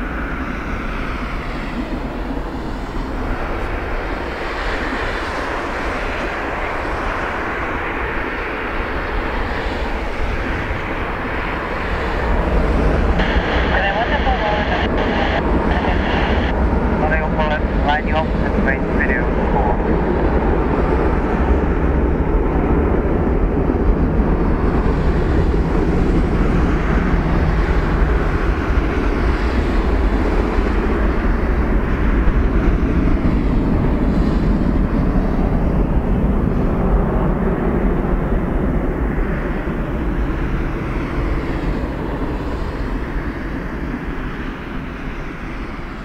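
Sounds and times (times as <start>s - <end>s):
jet engines at takeoff: 0.0s - 46.0s.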